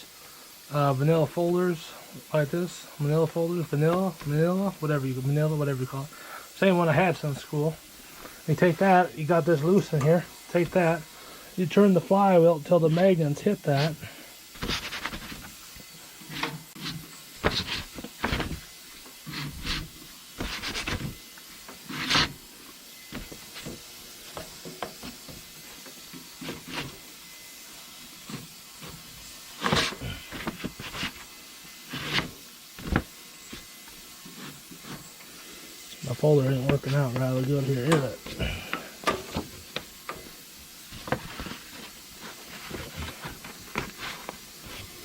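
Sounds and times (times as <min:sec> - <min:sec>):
faint steady hiss: 0:00.0 - 0:45.0.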